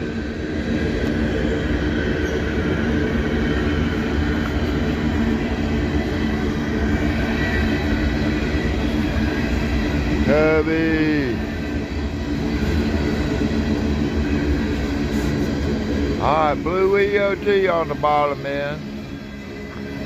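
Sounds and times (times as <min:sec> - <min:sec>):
train wheels rumbling on rail: 0:00.0 - 0:20.0
high wheel squeal: 0:01.2 - 0:20.0.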